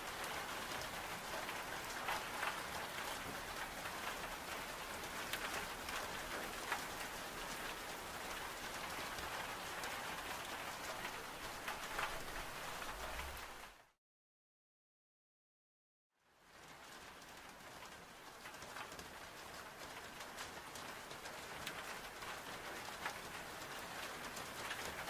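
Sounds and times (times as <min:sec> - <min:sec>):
heavy rain on window glass: 0:00.0 - 0:13.8, 0:16.2 - 0:25.0.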